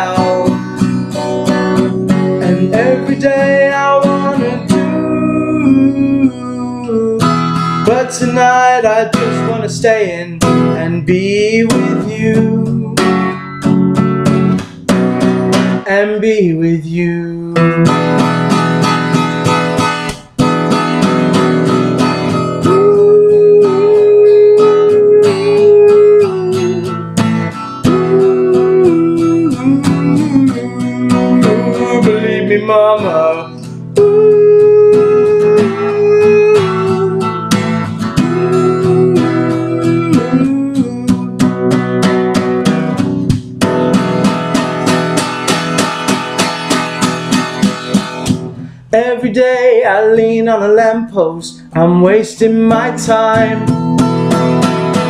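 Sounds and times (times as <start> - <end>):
man singing: 0.0 - 13.7, 15.7 - 18.8, 21.5 - 43.5, 47.2 - 55.0
acoustic guitar strumming: 0.0 - 55.0.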